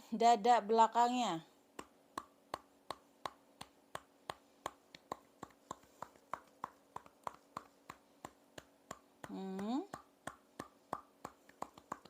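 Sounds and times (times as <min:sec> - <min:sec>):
hands patting a back: 0:01.7 - 0:12.0.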